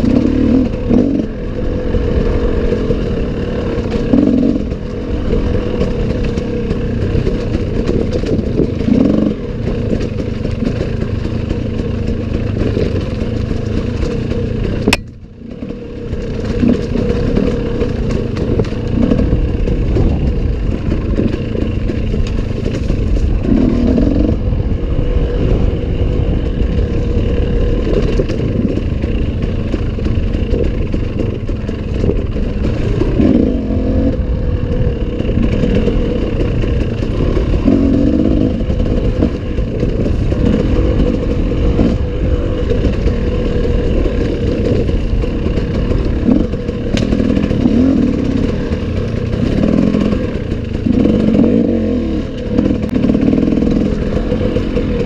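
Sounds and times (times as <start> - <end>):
engine clatter: 0.0 - 55.0
motorcycle engine running: 0.0 - 55.0.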